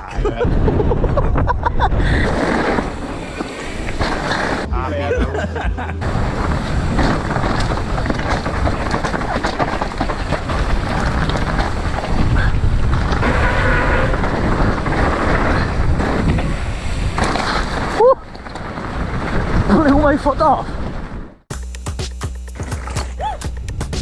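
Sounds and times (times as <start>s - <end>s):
strong wind on microphone: 0.2s - 4.7s, 6.0s - 21.4s.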